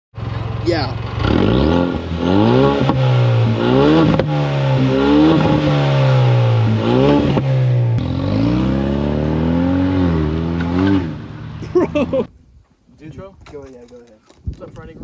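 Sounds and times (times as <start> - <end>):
car engine accelerating: 0.2 - 12.2.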